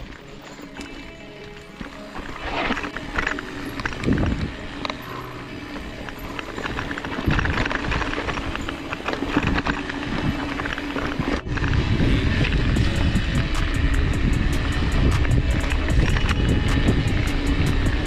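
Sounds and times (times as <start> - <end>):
bike clattering over bumps: 0.0 - 18.0
tyres rolling on dirt: 0.0 - 18.0.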